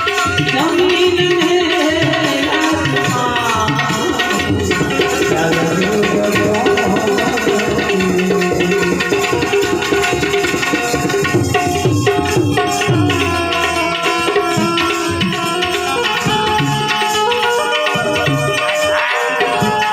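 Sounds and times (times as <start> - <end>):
harmonium playing held notes: 0.0 - 19.9
tabla strokes: 0.0 - 19.9.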